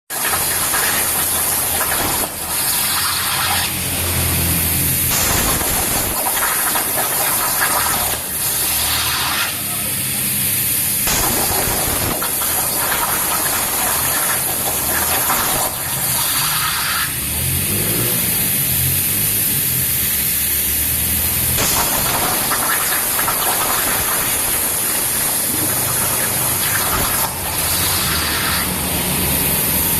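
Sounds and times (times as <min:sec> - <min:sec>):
cutting machine hissing: 0:00.4 - 0:29.9.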